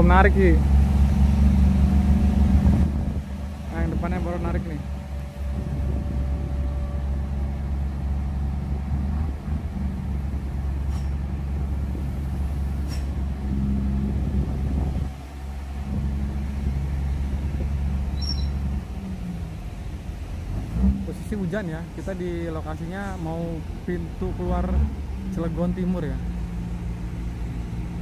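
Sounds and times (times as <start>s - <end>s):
diesel truck engines under load: 0.0s - 28.0s.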